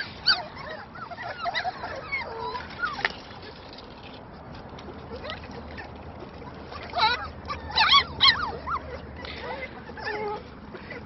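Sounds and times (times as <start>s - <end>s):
puppies whimpering and yipping: 0.0s - 11.0s.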